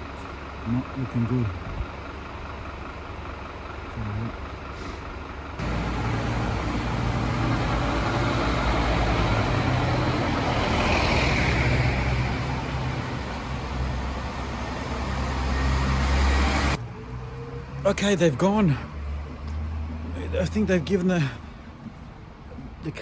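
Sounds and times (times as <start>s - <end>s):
heavy vehicle engine hum: 0.0s - 23.0s.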